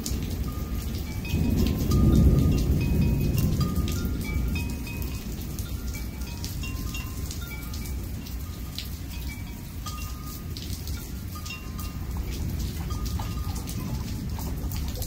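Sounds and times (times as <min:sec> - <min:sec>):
heavy rain: 0:00.0 - 0:15.0
water drops dripping: 0:00.0 - 0:15.0.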